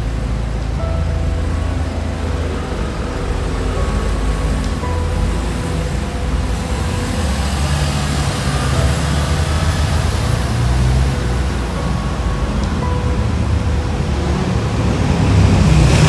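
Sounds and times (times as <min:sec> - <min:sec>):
bus engine drone: 0:00.0 - 0:16.0
car engines in traffic: 0:00.0 - 0:16.0.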